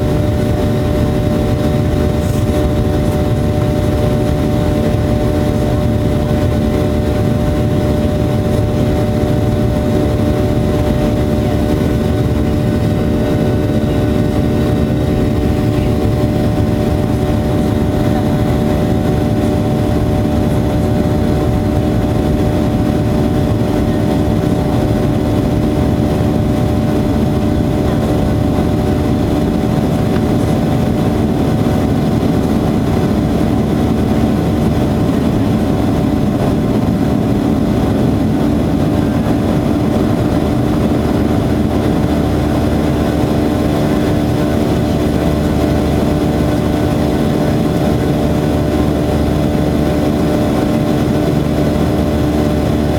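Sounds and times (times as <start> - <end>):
jet engines droning: 0.0 - 52.9.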